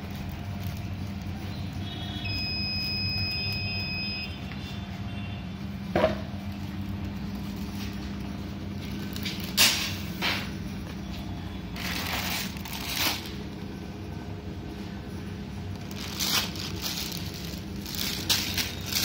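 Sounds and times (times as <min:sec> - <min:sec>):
conveyor motor humming: 0:00.0 - 0:19.0.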